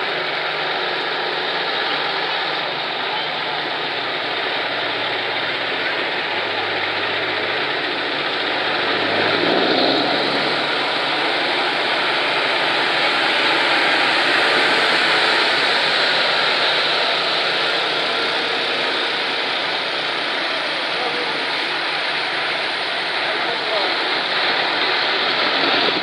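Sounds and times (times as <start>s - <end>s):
heavy trucks driving past: 0.0s - 26.0s.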